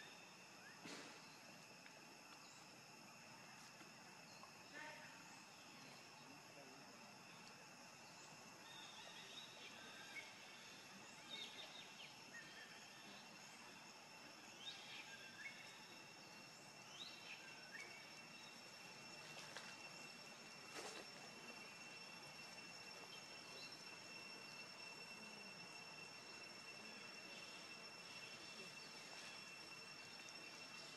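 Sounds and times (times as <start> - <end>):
high insect drone: 0.0 - 30.9.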